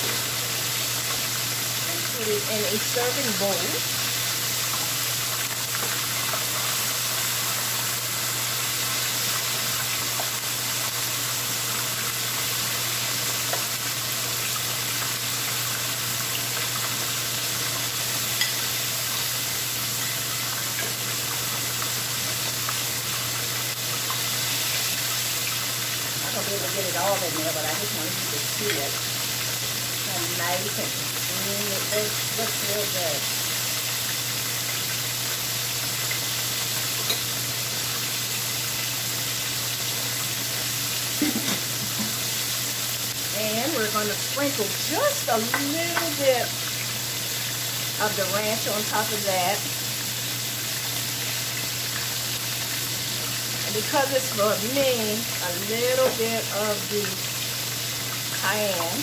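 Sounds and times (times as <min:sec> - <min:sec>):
chicken sizzling in oil: 0:00.0 - 0:59.0.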